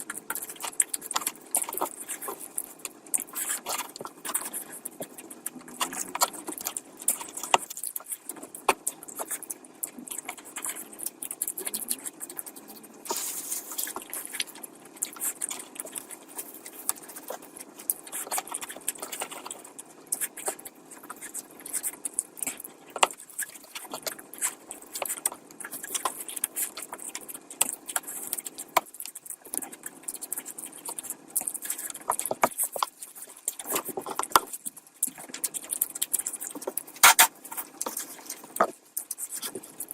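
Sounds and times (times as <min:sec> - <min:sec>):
chewing and mouth smacks: 0:00.0 - 0:39.9.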